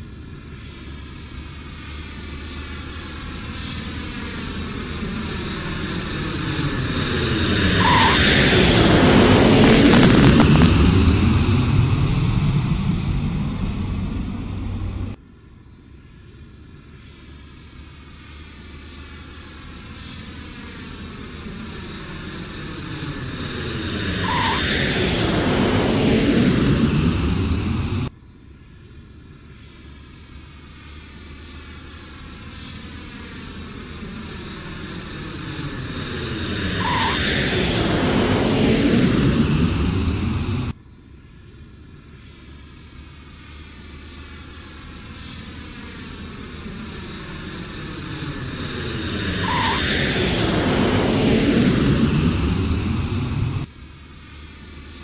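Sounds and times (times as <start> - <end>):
jet airliner flying past: 0.0 - 55.0.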